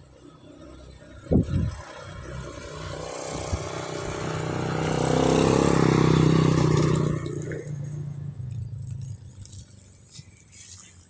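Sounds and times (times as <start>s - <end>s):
motor vehicle passing by: 0.0s - 10.9s.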